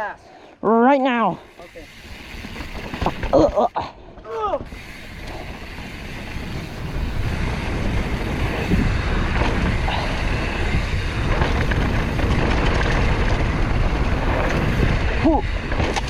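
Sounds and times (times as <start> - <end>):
bike tyres rolling over rocky trail: 1.1 - 16.0
wind buffeting microphone: 1.8 - 16.0.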